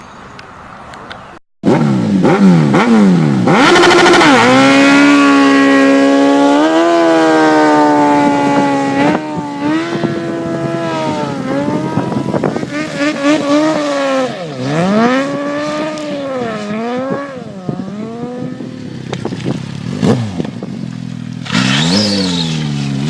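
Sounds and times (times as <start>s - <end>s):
motorcycle engine revving: 1.6s - 23.0s.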